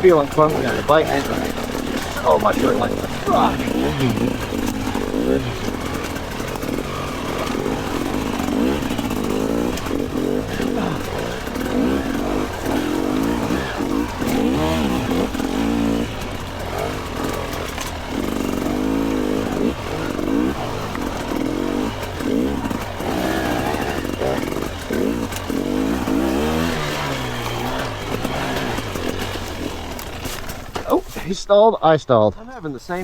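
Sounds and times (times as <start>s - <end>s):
dirt bike engine revving: 0.0s - 31.4s.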